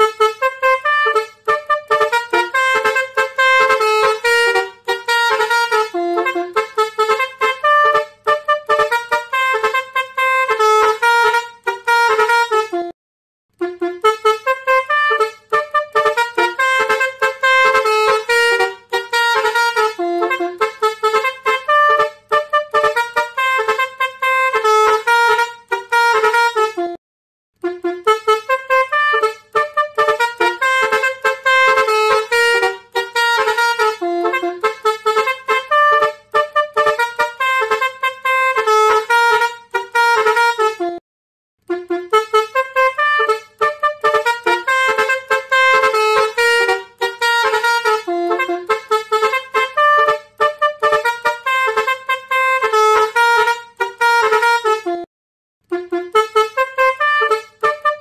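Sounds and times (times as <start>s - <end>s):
truck air horn playing tune: 0.0s - 27.0s, 27.6s - 41.0s, 41.6s - 58.0s.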